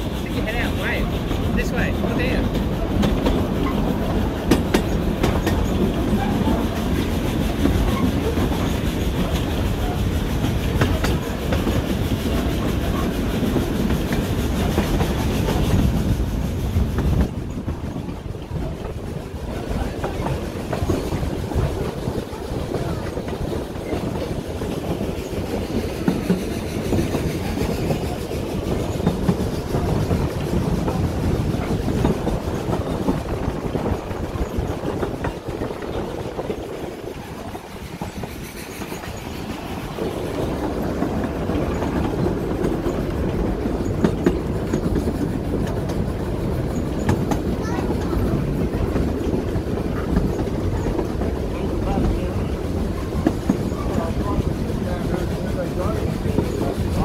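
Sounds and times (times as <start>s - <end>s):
wheels clacking over rail joints: 0.0s - 57.0s
wheels rumbling on rail: 0.0s - 57.0s.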